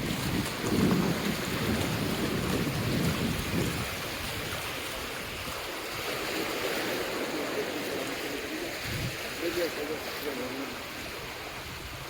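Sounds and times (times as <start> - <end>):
surf washing onto beach: 0.0 - 12.0
wind rumbling on microphone: 0.0 - 12.0.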